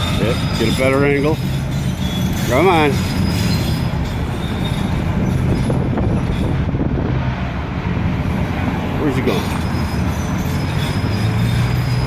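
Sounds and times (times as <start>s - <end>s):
excavator engine rumble: 0.0s - 12.0s
metal tracks rattling and clanking: 0.0s - 12.0s.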